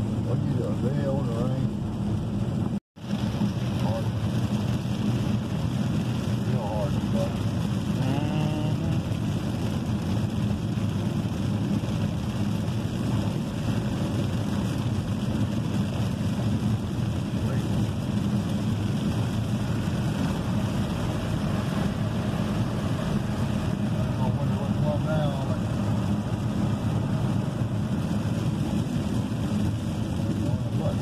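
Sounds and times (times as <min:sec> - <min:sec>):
heavy rain: 0:00.0 - 0:31.0
low engine drone: 0:00.0 - 0:31.0
tyres on wet road: 0:00.0 - 0:31.0.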